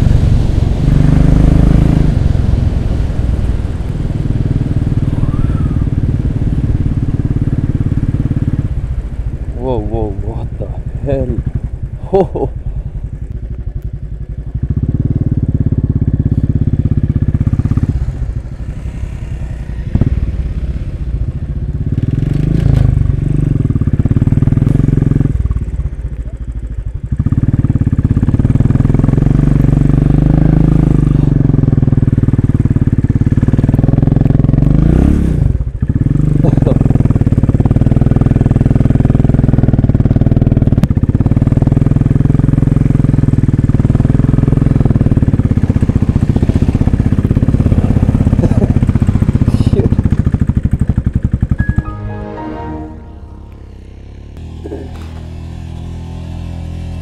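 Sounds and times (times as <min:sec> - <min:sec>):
motorcycle engine running: 0:00.0 - 0:52.0, 0:52.8 - 0:57.0.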